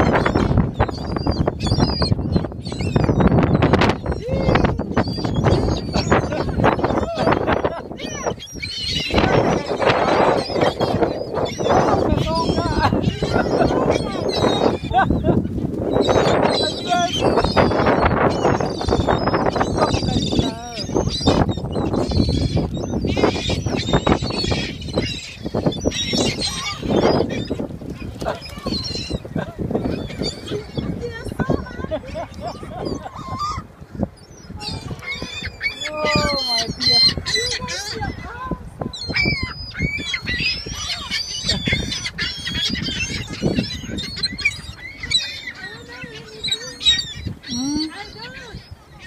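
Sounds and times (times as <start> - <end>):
flock of birds calling: 0.0 - 49.0.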